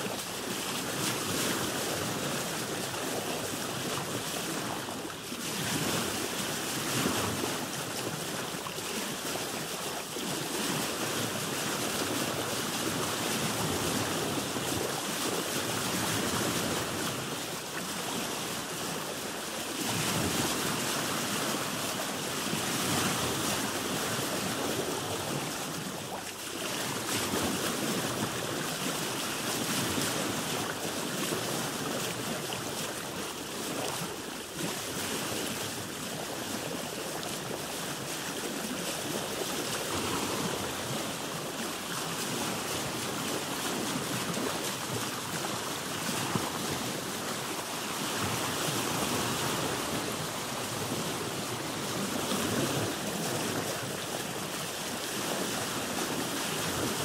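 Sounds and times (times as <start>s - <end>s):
ocean waves washing around boat: 0.0s - 57.0s.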